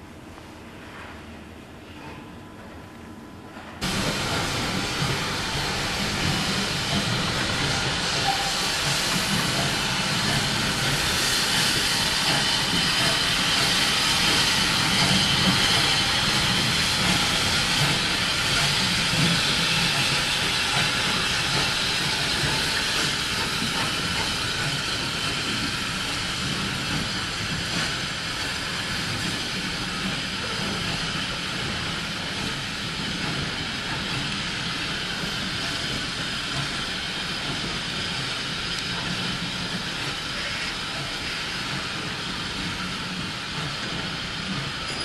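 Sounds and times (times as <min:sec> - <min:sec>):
steam hissing from locomotive: 0:03.8 - 0:45.0.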